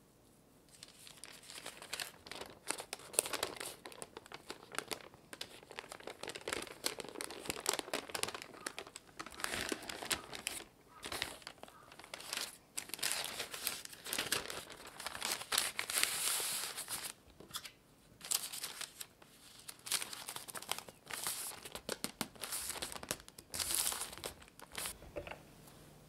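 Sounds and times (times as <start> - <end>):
parchment paper crinkling: 0.7 - 25.0.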